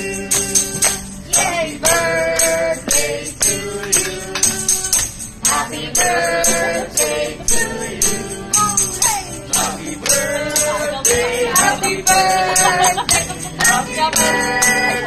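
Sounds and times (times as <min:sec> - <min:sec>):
acoustic guitar strumming: 0:00.0 - 0:15.0
group singing: 0:00.0 - 0:15.0.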